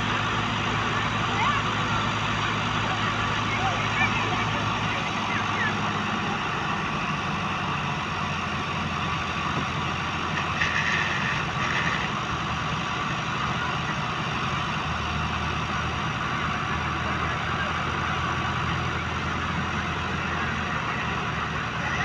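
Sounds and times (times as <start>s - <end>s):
tractor engines idling: 0.0s - 22.0s.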